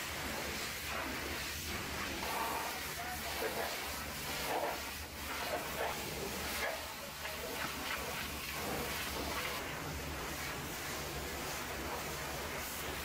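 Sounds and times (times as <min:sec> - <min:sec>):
pressure washer jet hissing: 0:00.0 - 0:13.0.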